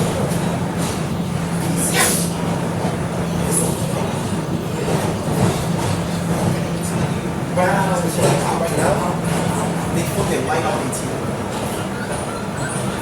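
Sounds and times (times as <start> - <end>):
subway wheels rumbling on track: 0.0 - 13.0.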